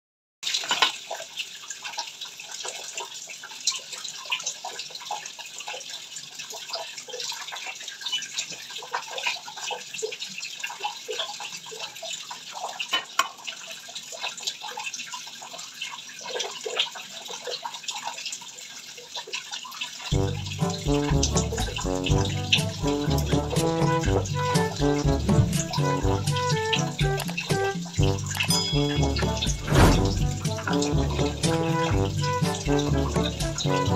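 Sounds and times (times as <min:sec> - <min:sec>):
water trickling and splashing: 0:00.4 - 0:33.9.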